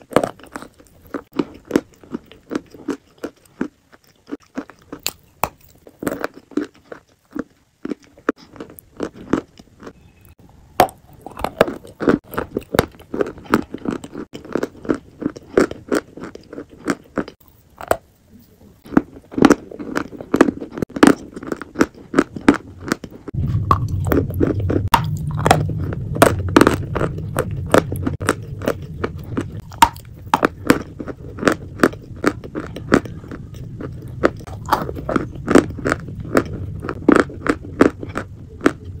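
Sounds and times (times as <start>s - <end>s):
crunchy bites and chewing: 0.0s - 18.2s, 18.8s - 39.0s
low steady hum: 4.7s - 39.0s.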